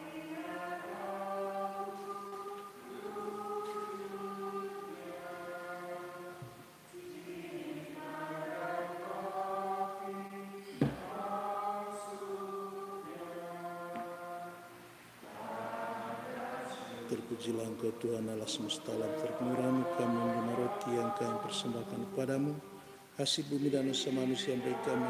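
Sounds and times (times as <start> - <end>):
group singing a hymn: 0.0 - 25.0.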